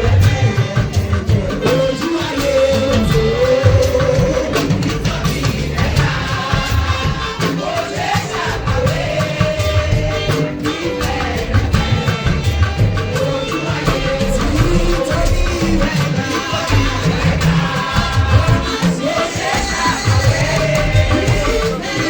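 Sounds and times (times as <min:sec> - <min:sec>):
upbeat music with singing: 0:00.0 - 0:22.0.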